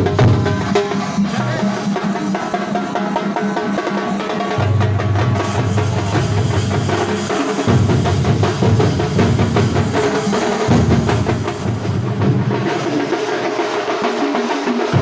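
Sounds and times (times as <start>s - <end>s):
fast drum strokes: 0.0s - 15.0s.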